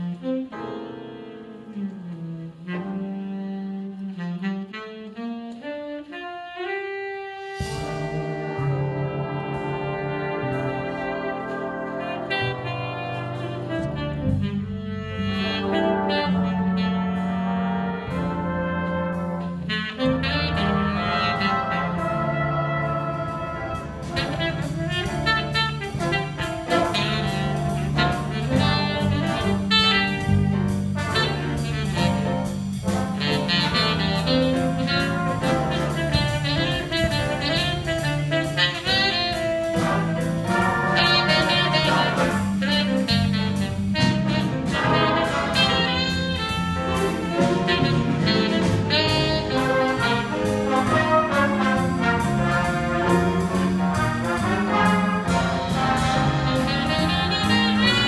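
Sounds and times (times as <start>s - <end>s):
jazz big band playing: 0.0s - 58.0s
tenor saxophone: 0.0s - 58.0s
drum kit: 7.4s - 58.0s.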